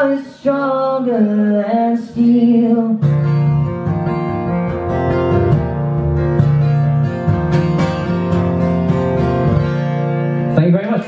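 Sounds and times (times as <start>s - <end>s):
acoustic guitar strumming chords: 2.1s - 11.0s.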